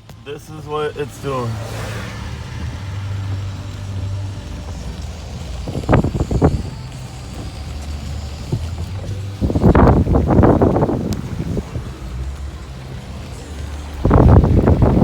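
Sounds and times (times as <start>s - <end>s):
car engine humming: 0.0s - 15.0s
heavy rain hissing: 0.2s - 15.0s.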